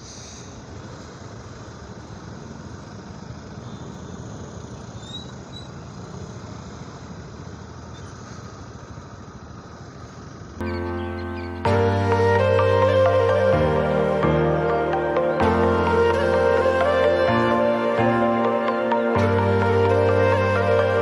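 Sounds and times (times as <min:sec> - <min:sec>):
vehicle engines idling: 0:00.0 - 0:21.0.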